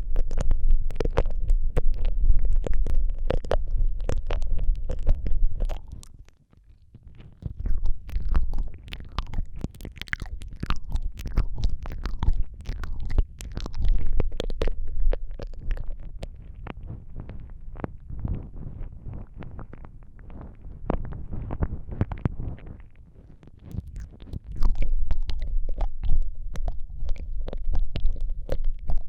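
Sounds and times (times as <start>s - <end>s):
low rumble: 0.0s - 6.1s, 7.4s - 29.0s
wet tongue and lip clicks: 0.0s - 29.0s.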